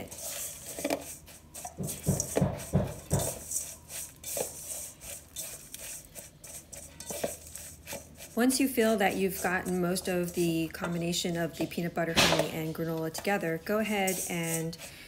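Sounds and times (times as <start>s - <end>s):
spatula scraping metal bowl: 0.0s - 15.0s.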